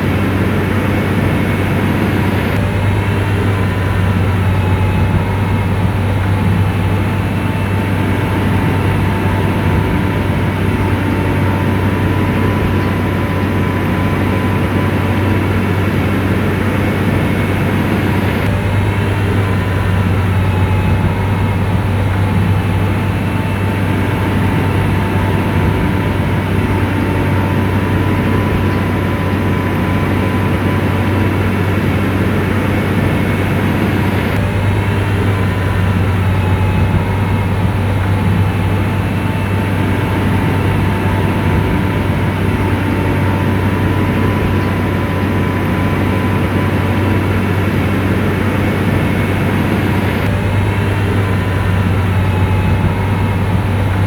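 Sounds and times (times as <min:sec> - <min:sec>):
grader diesel engine hum: 0:00.0 - 0:54.0
steady whine: 0:00.0 - 0:54.0.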